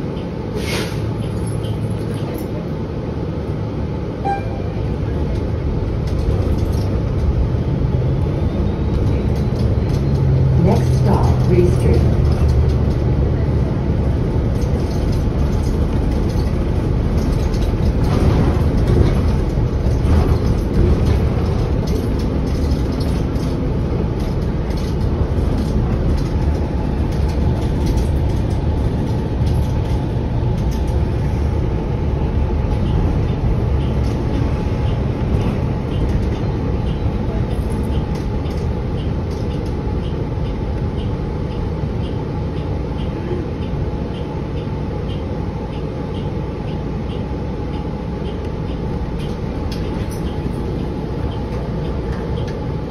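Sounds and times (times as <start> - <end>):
bus drivetrain and road rumble: 0.0 - 52.9.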